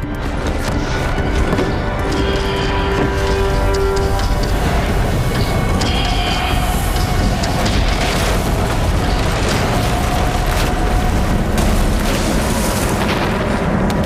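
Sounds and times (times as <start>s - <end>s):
dramatic music: 0.0s - 14.0s
deep rumble of booms: 1.4s - 14.0s.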